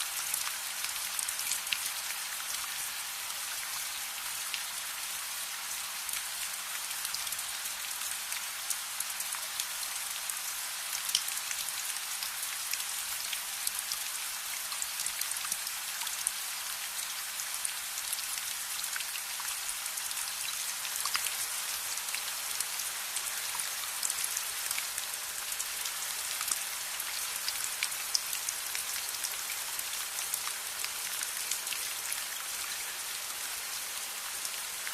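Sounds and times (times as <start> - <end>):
steady rain patter: 0.0 - 34.9.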